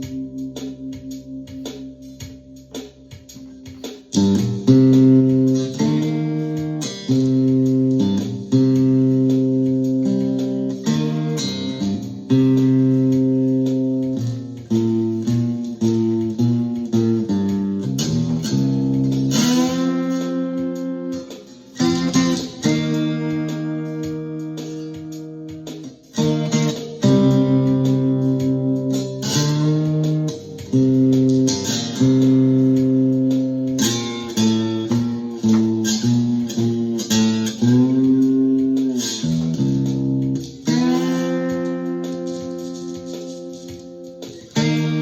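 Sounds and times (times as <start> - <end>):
slide guitar chords: 0.0 - 45.0.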